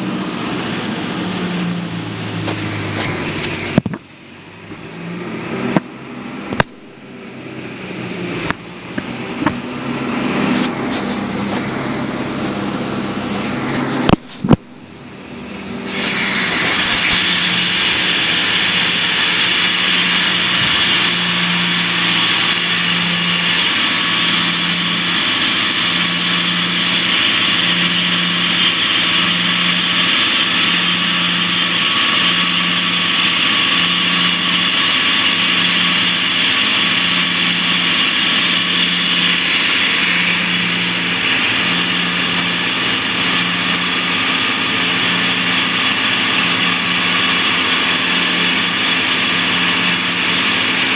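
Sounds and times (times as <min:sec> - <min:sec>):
pulsing low hum: 0:00.0 - 0:50.9
drill rig drilling into rock: 0:01.6 - 0:09.8, 0:10.4 - 0:50.9.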